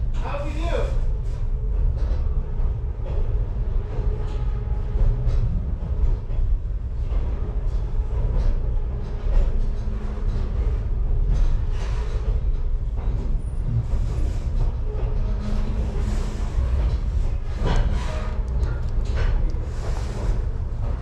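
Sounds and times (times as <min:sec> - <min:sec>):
train rumbling on rails: 0:00.0 - 0:21.0
train knocks: 0:02.9 - 0:21.0.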